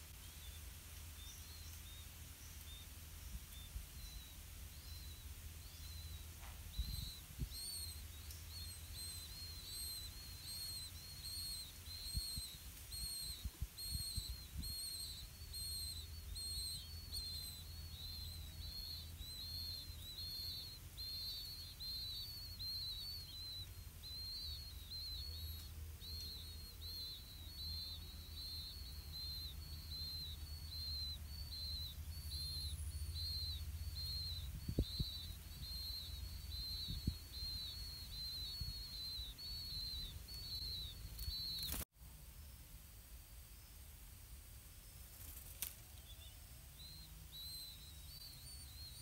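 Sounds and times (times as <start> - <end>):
nestlings begging chirps: 0.0 - 41.8, 44.7 - 49.0.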